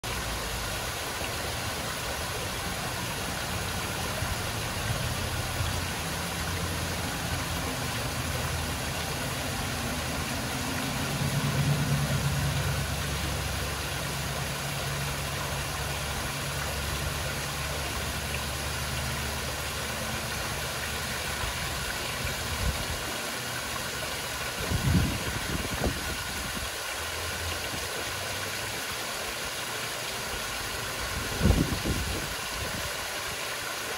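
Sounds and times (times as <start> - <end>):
waterfall splashing into pond: 0.0 - 33.9.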